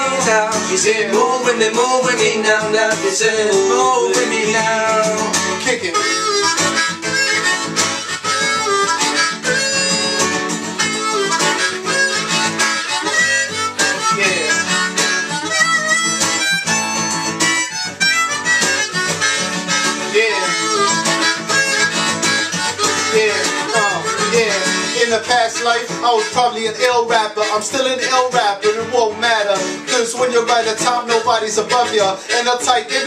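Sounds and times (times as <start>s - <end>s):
harmonica solo: 0.0s - 33.0s
strummed acoustic guitar: 0.0s - 33.0s.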